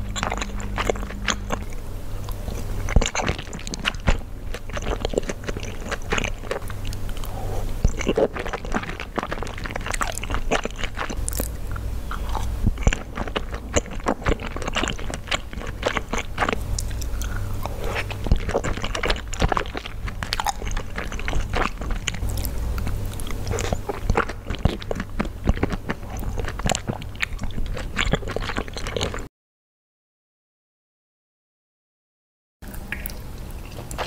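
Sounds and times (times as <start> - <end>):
wet chewing and lip smacking: 0.0 - 29.3, 32.7 - 34.0.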